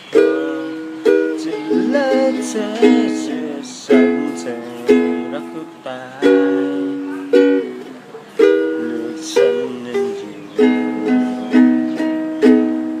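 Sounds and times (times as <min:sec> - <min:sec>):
acoustic string instrument strummed: 0:00.0 - 0:13.0.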